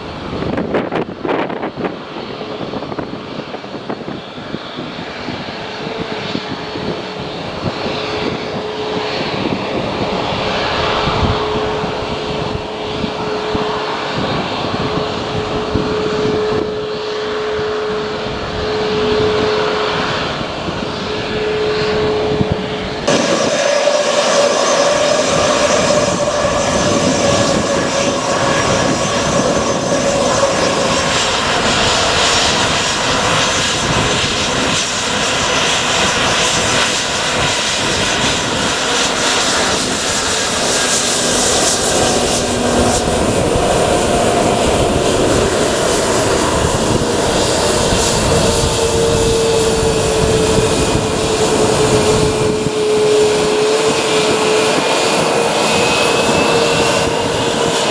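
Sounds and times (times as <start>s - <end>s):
jet engines at high power: 0.0s - 57.9s.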